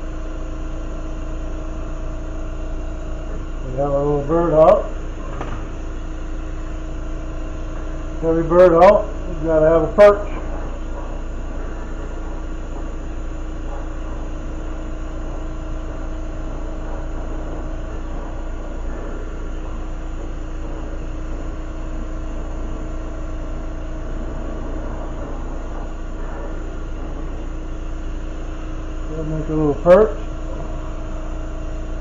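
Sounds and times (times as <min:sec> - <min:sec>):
constant low hum: 0:00.0 - 0:32.0.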